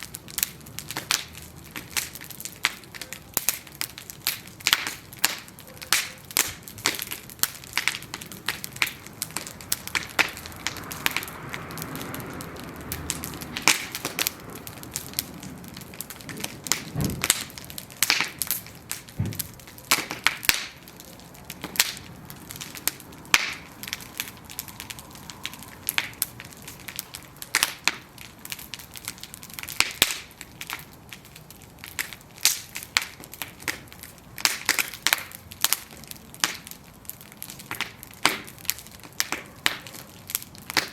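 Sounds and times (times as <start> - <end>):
rush of flame: 0.0 - 39.3
bonfire crackling and popping: 0.0 - 40.9.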